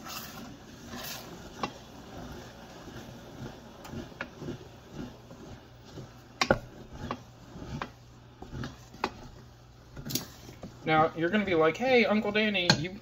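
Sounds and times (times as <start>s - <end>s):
spoon stirring thick sauce: 0.0s - 12.9s.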